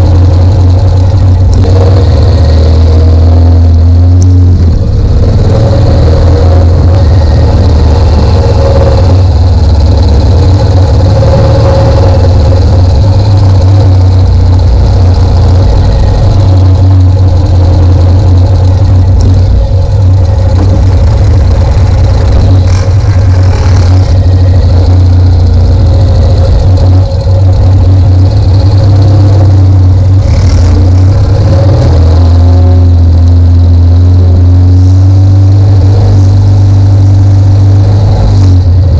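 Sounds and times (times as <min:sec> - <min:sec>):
engines running loudly: 0:00.0 - 0:38.9.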